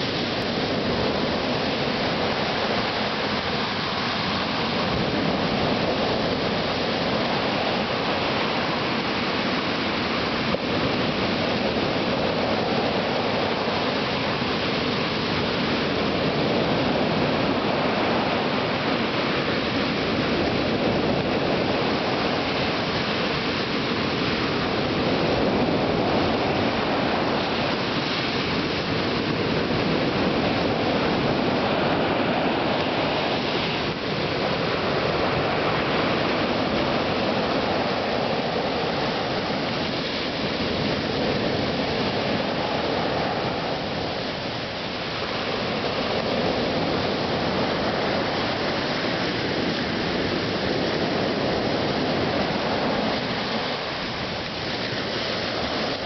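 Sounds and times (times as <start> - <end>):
sea surf breaking on beach: 0.0 - 56.0.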